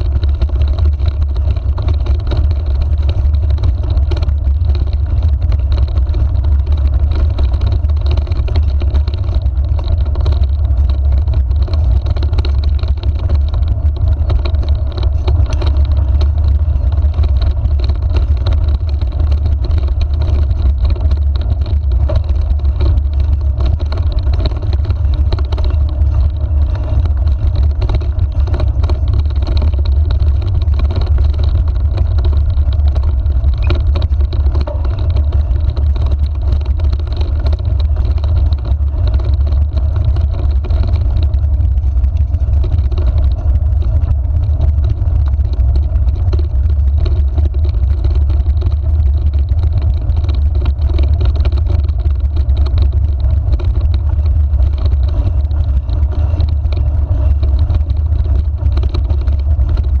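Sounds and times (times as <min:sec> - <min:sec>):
loud low rumble: 0:00.0 - 1:00.0.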